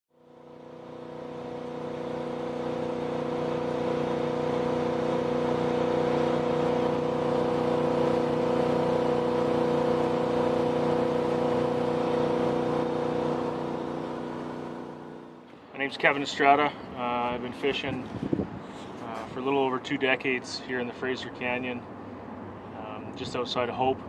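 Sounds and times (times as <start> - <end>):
boat engine droning: 0.1 - 24.0.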